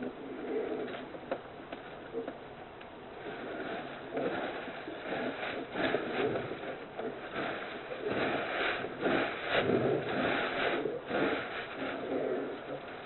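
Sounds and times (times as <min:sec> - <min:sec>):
bear cub snoring loudly: 0:00.0 - 0:01.2, 0:03.2 - 0:13.0.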